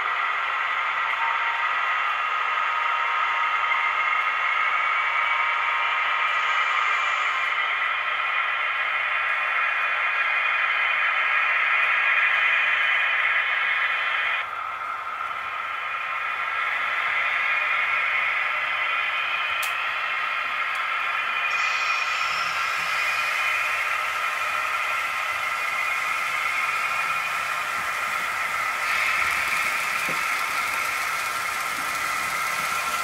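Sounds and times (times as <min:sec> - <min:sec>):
model trains running on track: 0:00.0 - 0:33.0.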